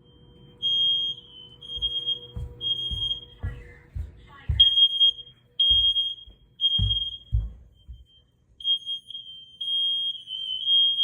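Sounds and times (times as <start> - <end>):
smoke alarm beeping: 0.0 - 3.6, 4.6 - 11.0.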